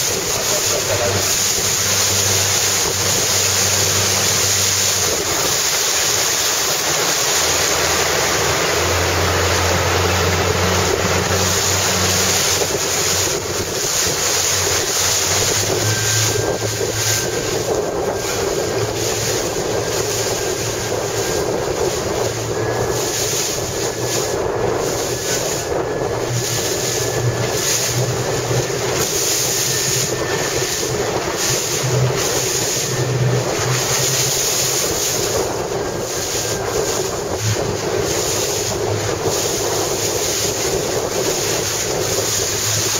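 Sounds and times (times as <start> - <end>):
choppy water rushing and slapping: 0.0 - 42.9
low drone: 0.0 - 42.9
wind buffeting the microphone: 0.0 - 42.9.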